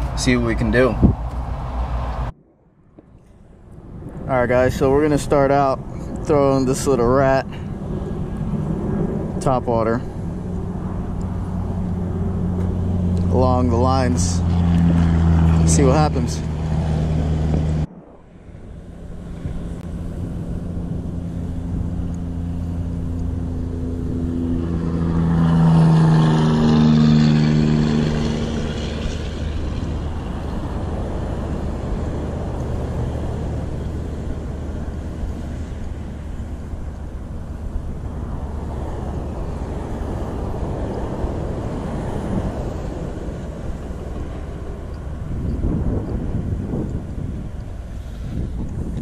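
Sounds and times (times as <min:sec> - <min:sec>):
cars passing: 0:00.0 - 0:49.0
low engine hum: 0:00.0 - 0:49.0.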